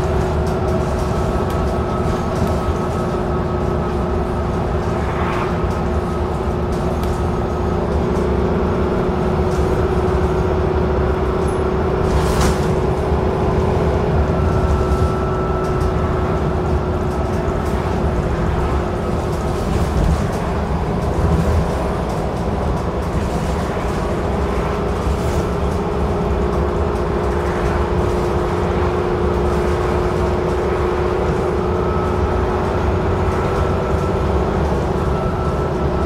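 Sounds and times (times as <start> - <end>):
bus engine and road rumble: 0.0 - 36.0.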